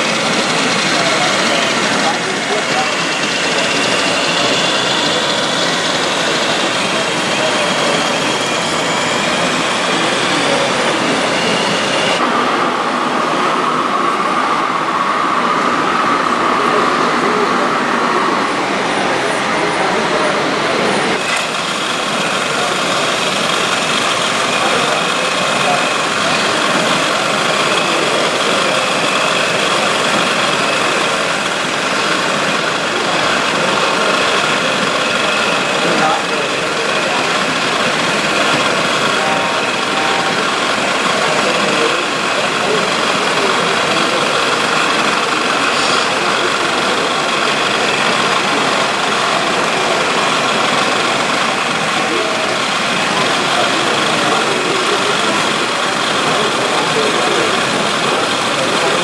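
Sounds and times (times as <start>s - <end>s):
model machines running: 0.0s - 59.0s.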